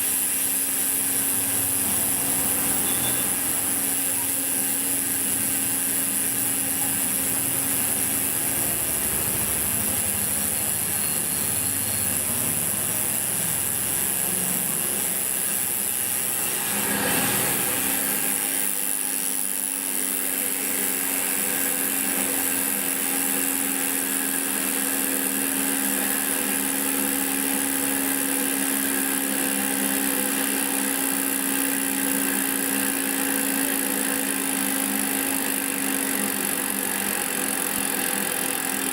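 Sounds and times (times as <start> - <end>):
bicycle freehub ratcheting buzz: 0.0 - 38.9.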